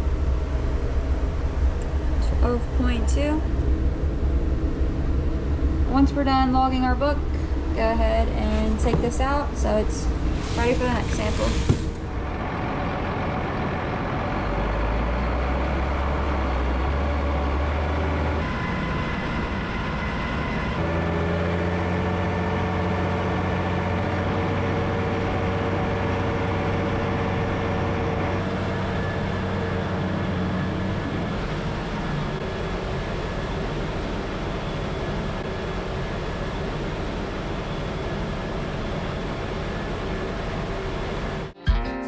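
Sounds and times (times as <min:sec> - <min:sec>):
heavy machinery engines running: 0:00.0 - 0:41.6.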